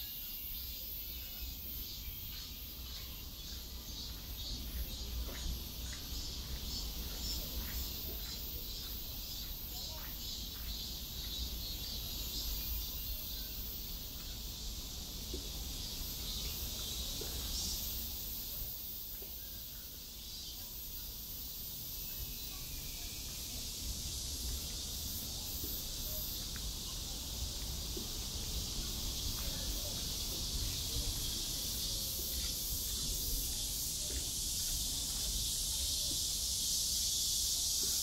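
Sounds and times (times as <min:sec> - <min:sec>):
chorus of insects: 0:00.0 - 0:38.0.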